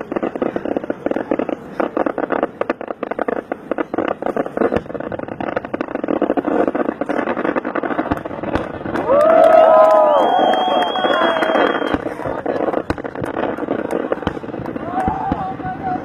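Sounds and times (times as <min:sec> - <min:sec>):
firecrackers crackling: 0:00.0 - 0:16.0.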